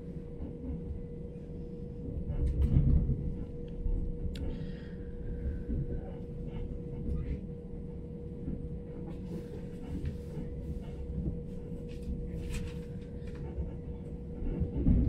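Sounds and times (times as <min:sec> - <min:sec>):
constant hum: 0:00.0 - 0:15.0
train rumble inside carriage: 0:00.0 - 0:15.0.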